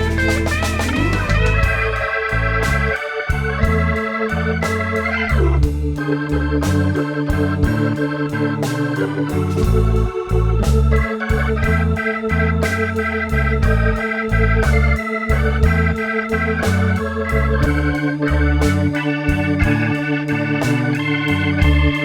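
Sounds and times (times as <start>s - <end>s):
steady drum beat: 0.0s - 6.0s, 6.6s - 8.0s, 8.6s - 12.0s, 12.6s - 16.0s, 16.6s - 22.0s
held keyboard chords: 0.0s - 22.0s
walking bass: 0.0s - 22.0s.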